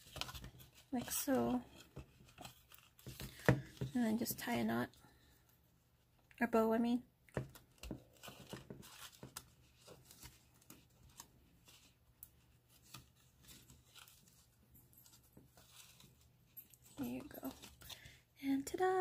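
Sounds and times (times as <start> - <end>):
cord rustling and scratching: 0.0 - 6.3, 7.3 - 18.3.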